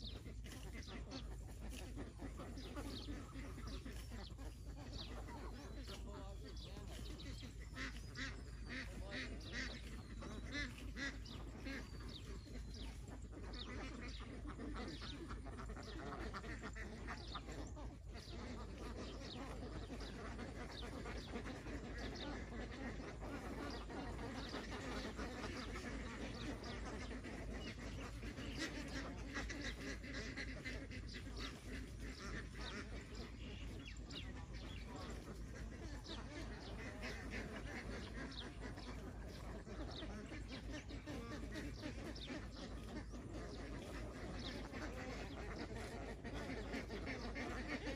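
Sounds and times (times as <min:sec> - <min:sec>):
ducks quacking: 0:00.0 - 0:47.9.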